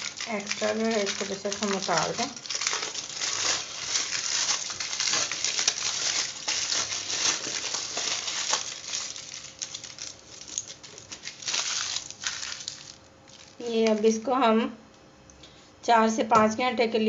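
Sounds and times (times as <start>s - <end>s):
aluminium foil crinkling: 0.0s - 14.2s.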